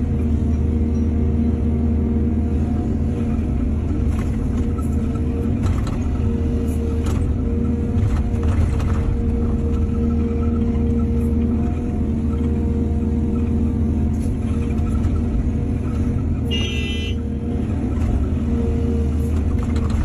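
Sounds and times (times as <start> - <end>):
excavator engine rumbling: 0.0 - 20.0.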